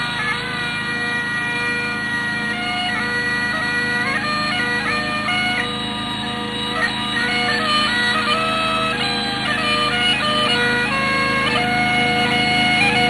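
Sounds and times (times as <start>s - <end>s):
bagpipe drones: 0.0s - 13.0s
bagpipe melody: 0.0s - 13.0s.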